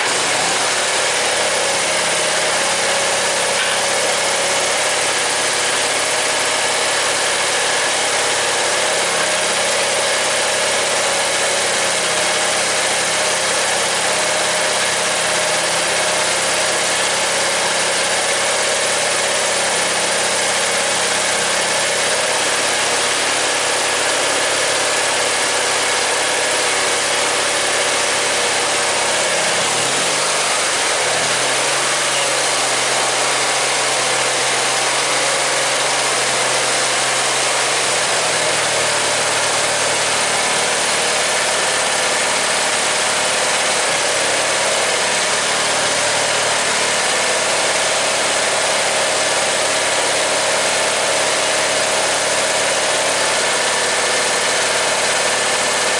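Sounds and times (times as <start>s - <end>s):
small engine idling: 0.0s - 55.9s.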